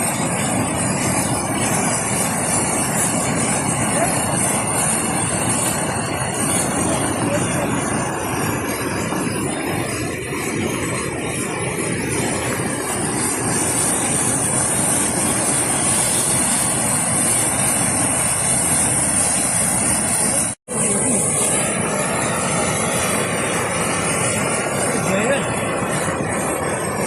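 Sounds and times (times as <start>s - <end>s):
floodwater roaring: 0.0s - 27.0s.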